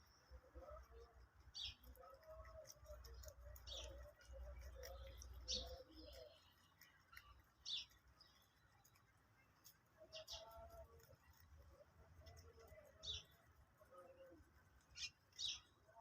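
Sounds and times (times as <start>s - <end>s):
rabbits chewing greens: 0.0s - 16.0s.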